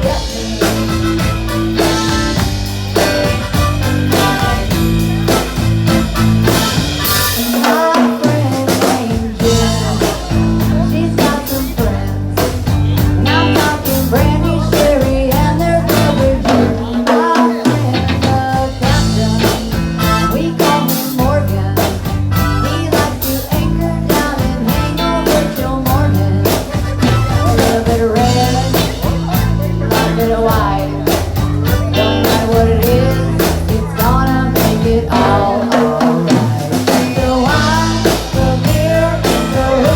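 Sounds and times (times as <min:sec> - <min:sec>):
bass: 0:00.0 - 0:39.9
drum kit beat: 0:00.0 - 0:39.9
electric guitar: 0:00.0 - 0:39.9
person singing: 0:00.0 - 0:39.9.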